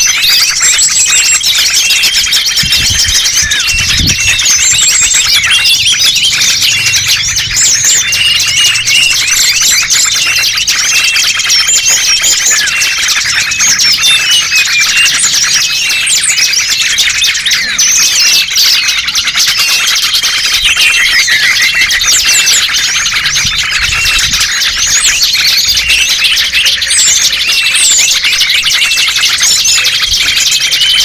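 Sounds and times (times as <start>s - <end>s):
songbirds chirping and twittering: 0.0s - 31.0s.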